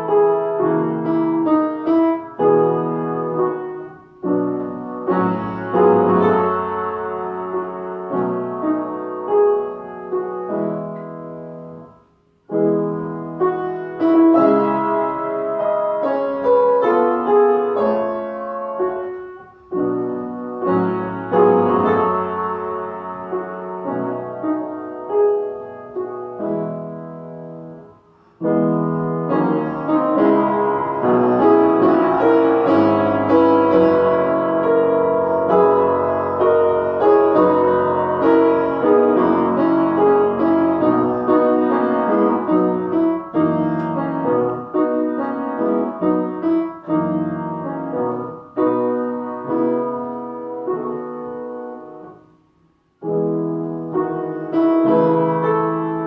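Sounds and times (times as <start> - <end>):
solo piano classical piece: 0.0 - 56.0.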